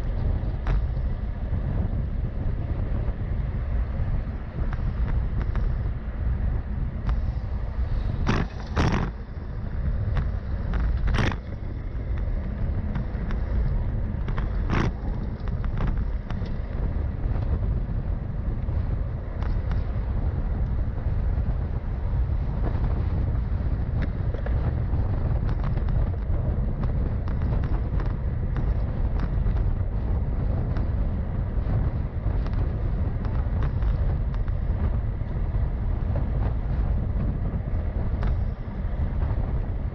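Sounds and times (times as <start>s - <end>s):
road rumble: 0.0s - 39.9s
wind on microphone: 0.0s - 39.9s.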